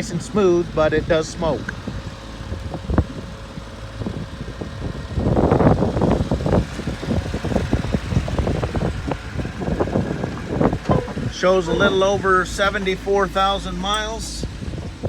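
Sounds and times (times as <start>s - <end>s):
irregular rumbling noise: 0.0s - 15.0s
truck engine idling: 0.0s - 15.0s.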